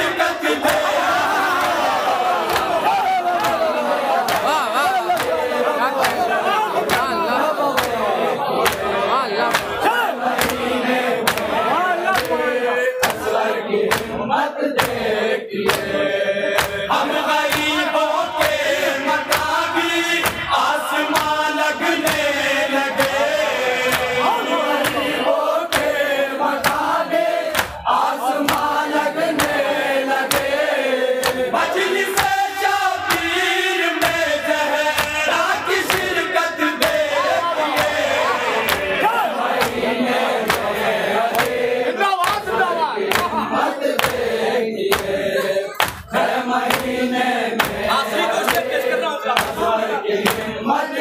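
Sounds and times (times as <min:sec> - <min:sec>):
men chanting in chorus: 0:00.0 - 0:51.0.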